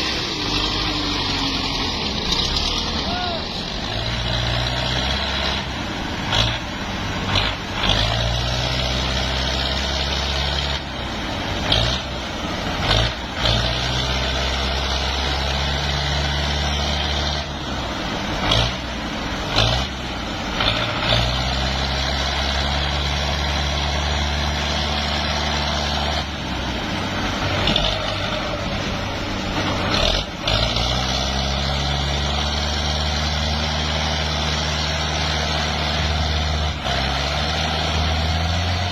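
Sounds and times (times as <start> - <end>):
tractor engine running hard: 0.0 - 38.9.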